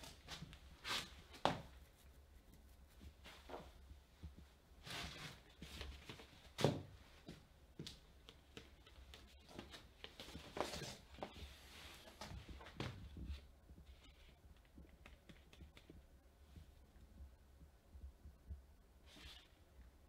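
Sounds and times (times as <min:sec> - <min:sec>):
soft rustling: 0:00.0 - 0:19.5
faint low hum: 0:00.0 - 0:20.0.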